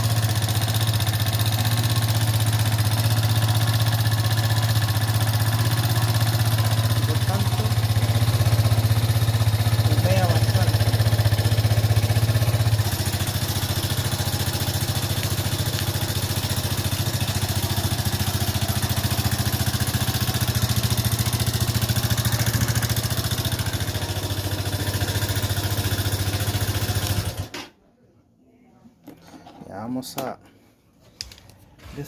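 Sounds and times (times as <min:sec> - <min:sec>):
motorcycle engine idling: 0:00.0 - 0:27.5.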